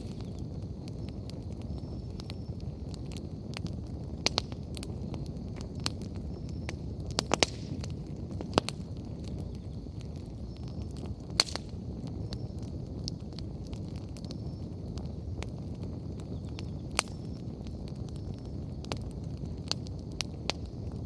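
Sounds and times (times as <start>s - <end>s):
bonfire crackling: 0.0s - 21.0s
low rumble of flame: 0.0s - 21.0s
sharp pops from fire: 0.0s - 21.0s.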